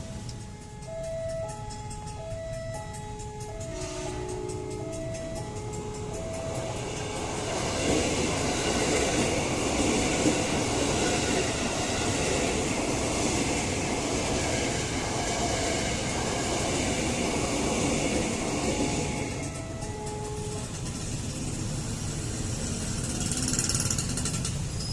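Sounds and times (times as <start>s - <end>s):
faint crossing warning bell: 0.0s - 24.0s
train wheels rumbling on rails: 0.0s - 24.9s.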